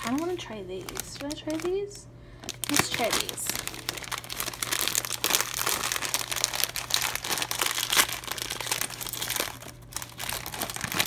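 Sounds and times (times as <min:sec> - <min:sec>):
snack bag crinkling: 0:00.0 - 0:11.0.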